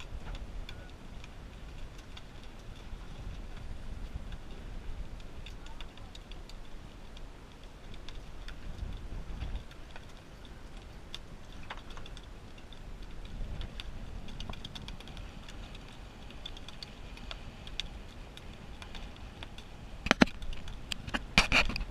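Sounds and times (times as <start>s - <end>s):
light ticks: 0.0s - 21.9s
wind buffeting microphone: 0.0s - 21.9s.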